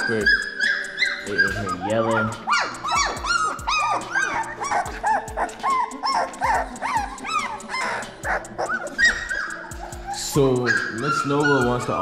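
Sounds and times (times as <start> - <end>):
background music with beat: 0.0 - 12.0
puppies whining and squealing: 0.0 - 12.0.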